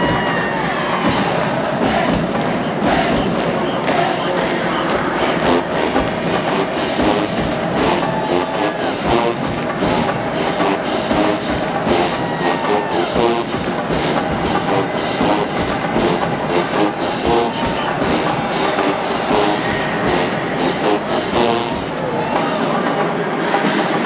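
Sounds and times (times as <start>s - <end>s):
marching band playing: 0.0s - 24.0s.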